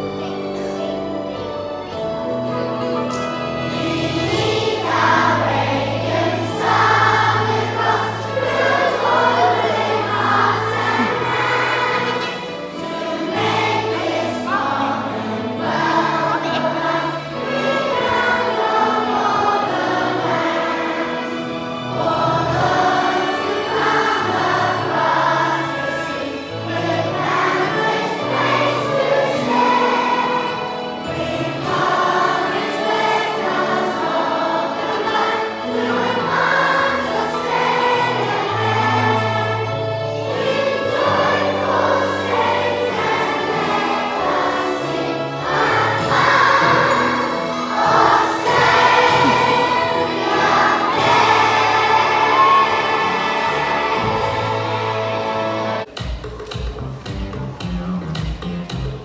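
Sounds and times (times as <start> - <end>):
instrumental accompaniment: 0.0 - 59.0
group singing a hymn: 1.8 - 55.9.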